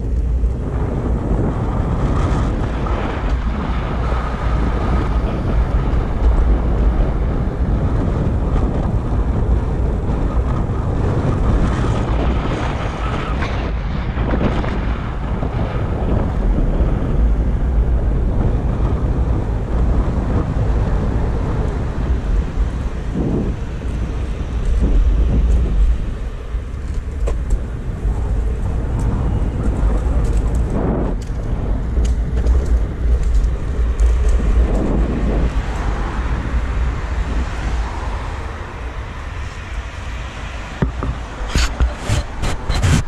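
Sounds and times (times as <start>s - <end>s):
road traffic: 0.0s - 43.0s
wind rumble on microphone: 0.0s - 43.0s.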